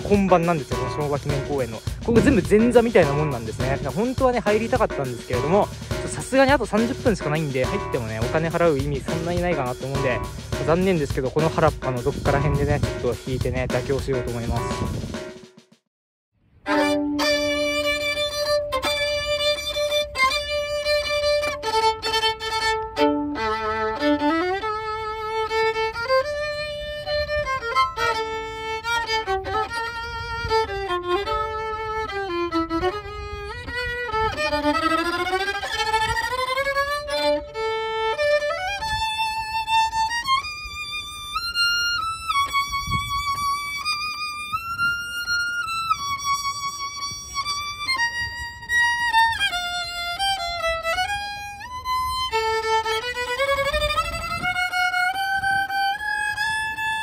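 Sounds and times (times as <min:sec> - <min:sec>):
solo violin melody: 0:00.0 - 0:15.1, 0:16.4 - 0:57.0.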